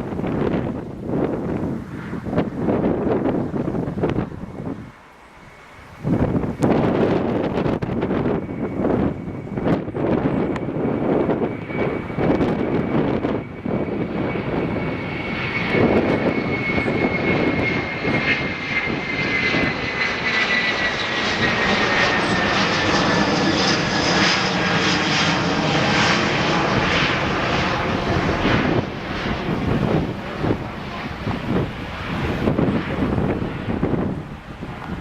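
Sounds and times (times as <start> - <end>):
jet engines rumbling: 0.0 - 35.0
wind on microphone: 0.0 - 35.0.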